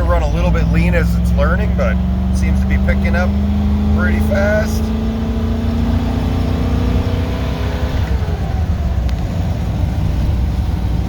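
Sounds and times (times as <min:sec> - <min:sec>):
engine running and rumbling: 0:00.0 - 0:11.0.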